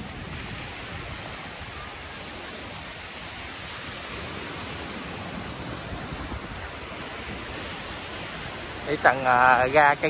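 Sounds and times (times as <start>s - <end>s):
sea surf: 0.0s - 10.0s
wind: 0.0s - 10.0s.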